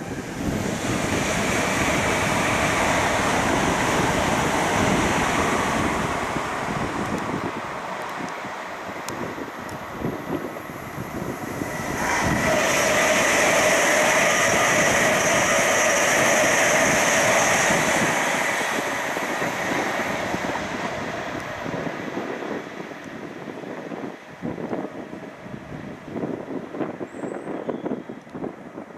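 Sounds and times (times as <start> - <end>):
high whine: 0.0 - 26.4
train wheels rushing on rail: 0.0 - 28.9.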